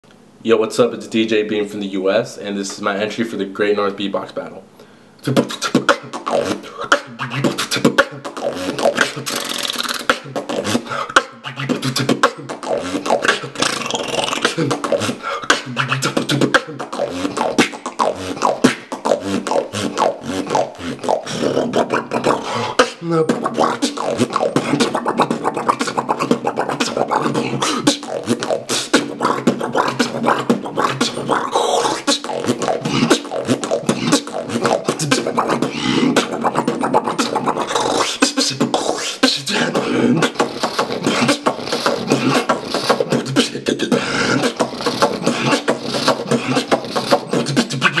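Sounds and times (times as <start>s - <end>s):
person beatboxing: 5.2s - 48.0s.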